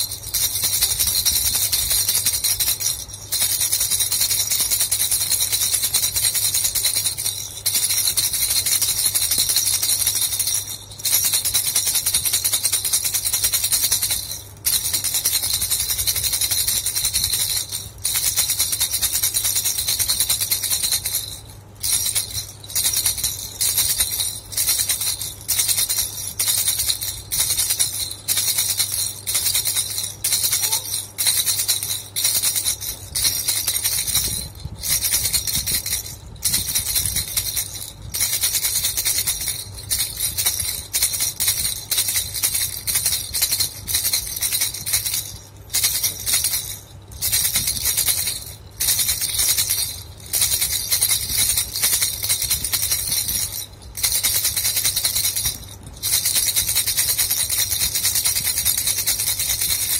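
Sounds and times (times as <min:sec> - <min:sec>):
faint low hum: 0:00.0 - 0:59.9
plastic baby rattle shaken: 0:00.0 - 0:59.9.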